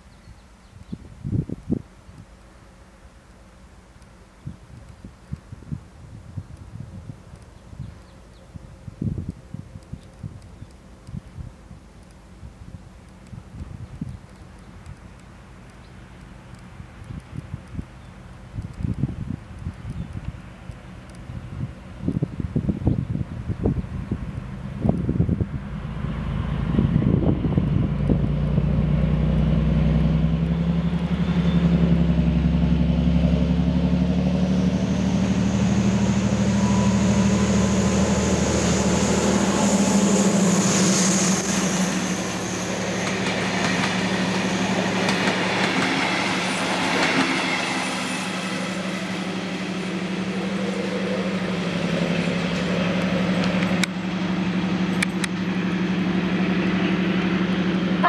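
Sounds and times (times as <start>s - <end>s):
diesel locomotive engine: 0.0s - 58.0s
wheel and rail noise: 1.5s - 58.0s.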